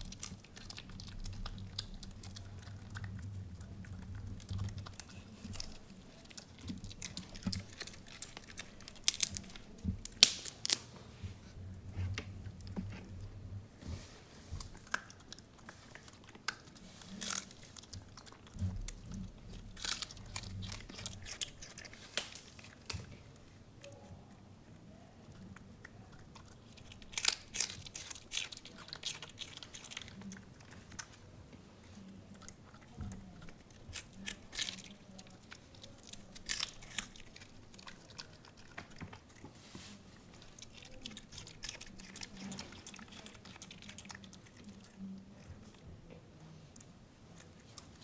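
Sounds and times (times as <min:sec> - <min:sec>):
dog crunching cabbage leaves: 0:00.0 - 0:13.3, 0:14.0 - 0:45.9, 0:46.5 - 0:48.0.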